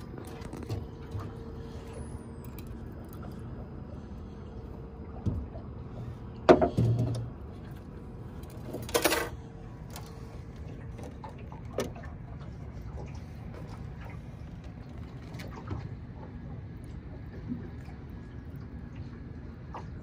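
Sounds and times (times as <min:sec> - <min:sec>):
boat engine hum: 0:00.0 - 0:20.0.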